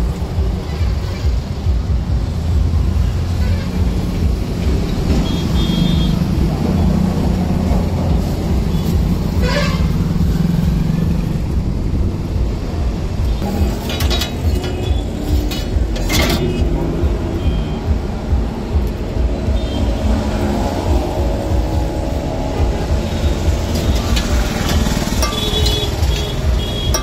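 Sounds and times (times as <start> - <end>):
engine rumbling: 1.3 - 27.0.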